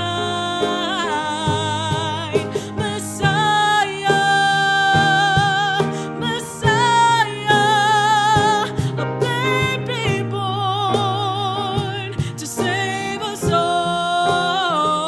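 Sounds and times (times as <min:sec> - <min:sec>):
instrumental accompaniment: 0:00.0 - 0:15.0
person singing with vibrato: 0:00.0 - 0:15.0.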